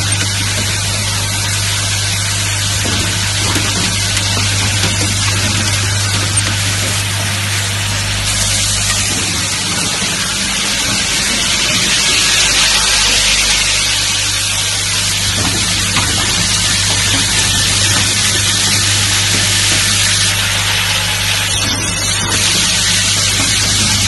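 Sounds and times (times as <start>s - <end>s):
low machine hum: 0.0s - 24.0s
machinery hissing: 0.0s - 24.0s.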